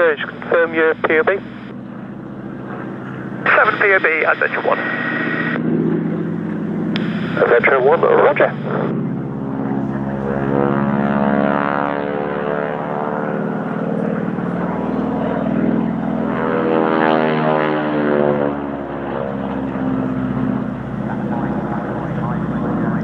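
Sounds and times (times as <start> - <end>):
propeller aircraft flying over: 0.0 - 23.0.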